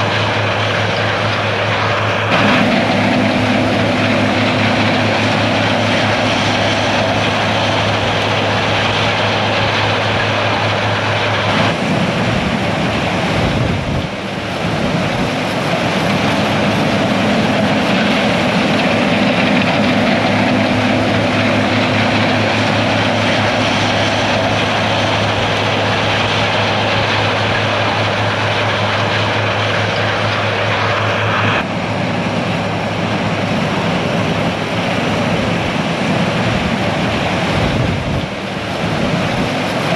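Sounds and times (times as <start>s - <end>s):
dense rushing noise: 0.0s - 39.9s
diesel engine drone: 0.0s - 39.9s.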